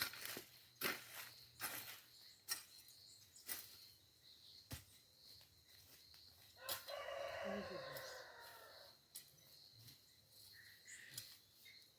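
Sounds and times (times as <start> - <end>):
high insect hum: 0.0 - 11.9
slow footsteps: 0.0 - 11.9.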